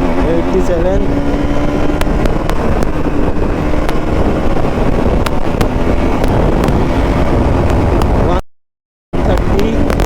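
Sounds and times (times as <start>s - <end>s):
motorcycle engine at high speed: 0.0s - 8.4s, 9.1s - 10.0s
wind rush on microphone: 0.0s - 8.4s, 9.2s - 10.0s.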